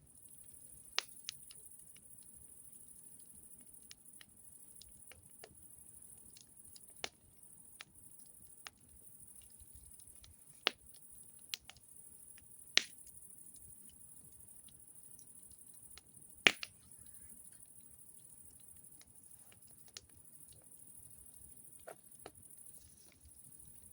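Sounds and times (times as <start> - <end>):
campfire wood crackling: 0.2 - 23.9.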